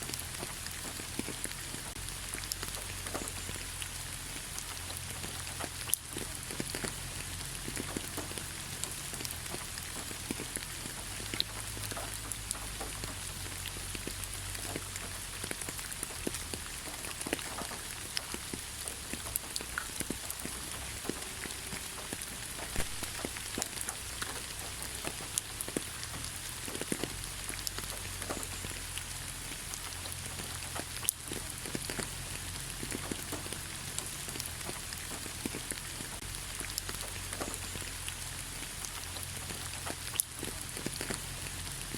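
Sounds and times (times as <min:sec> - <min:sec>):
light rain on leaves: 0:00.0 - 0:41.9.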